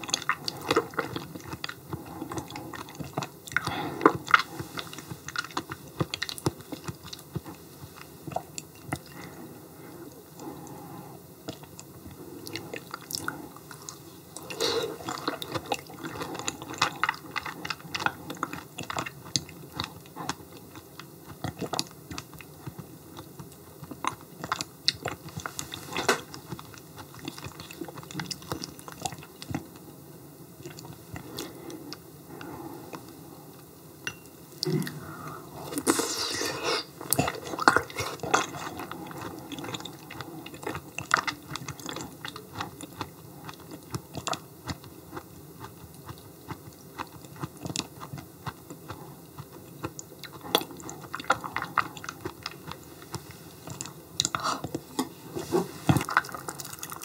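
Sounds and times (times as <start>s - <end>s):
person chewing wetly: 0.0s - 30.0s, 30.6s - 33.2s, 34.1s - 57.0s.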